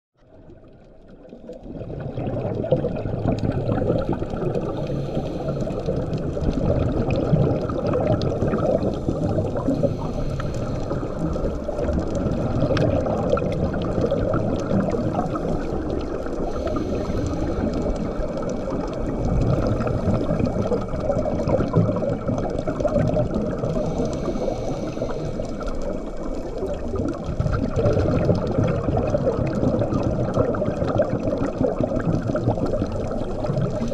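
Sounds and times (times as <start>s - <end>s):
underwater water rushing: 0.2s - 33.9s
diver exhaling bubbles: 0.3s - 33.9s.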